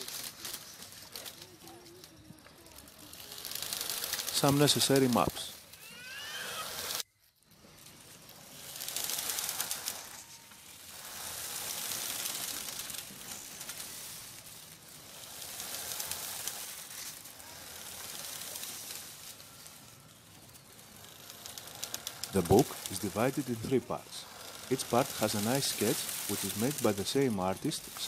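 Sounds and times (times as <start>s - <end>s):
mooring ropes creaking: 0.0s - 28.0s.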